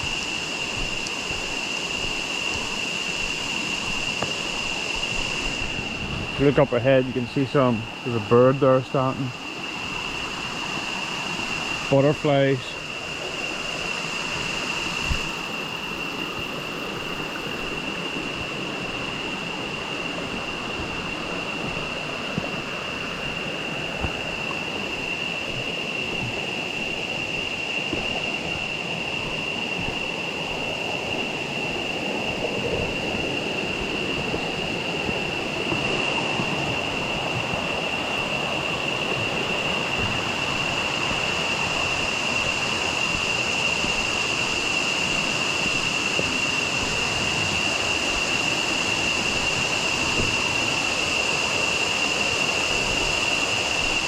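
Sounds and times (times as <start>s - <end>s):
river rushing over rocks: 9.7s - 54.0s.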